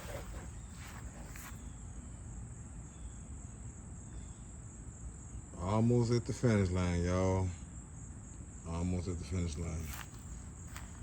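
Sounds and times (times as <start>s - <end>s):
crickets chirring: 0.0s - 1.8s, 2.9s - 11.0s.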